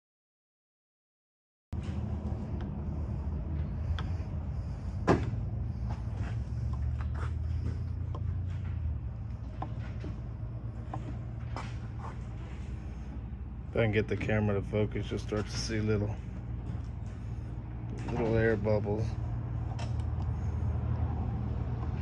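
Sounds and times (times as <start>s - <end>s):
steady low hum: 1.8s - 22.0s.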